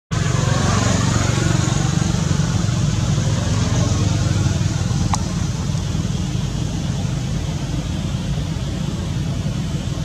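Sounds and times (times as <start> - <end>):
vehicle engine running: 0.1 - 10.0
constant hiss: 1.2 - 10.0.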